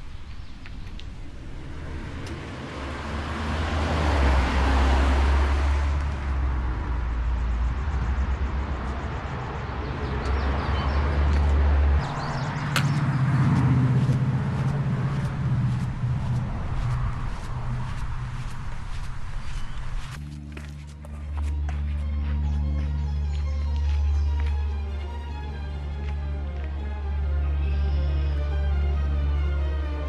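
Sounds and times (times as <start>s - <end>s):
low engine hum: 0.0s - 30.0s
vehicle passing on road: 0.0s - 30.0s.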